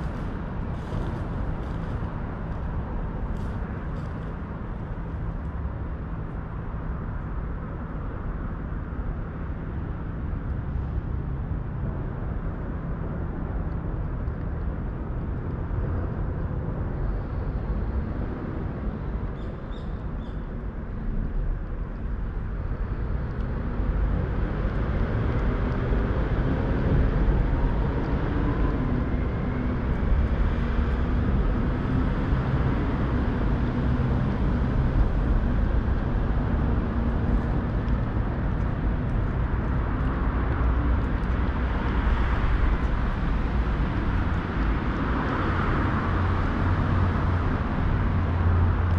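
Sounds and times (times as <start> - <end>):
distant city traffic rumble: 0.0 - 48.9.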